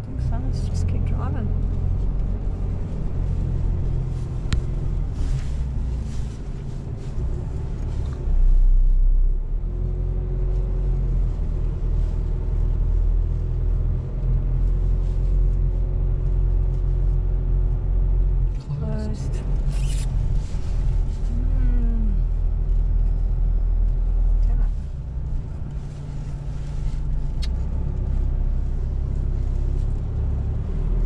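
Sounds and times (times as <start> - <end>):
vehicle engine and tyres rumbling: 0.0 - 31.0.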